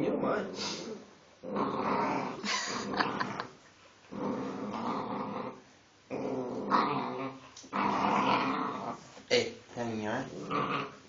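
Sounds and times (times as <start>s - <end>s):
puppy growling: 0.0s - 9.1s, 10.2s - 11.0s.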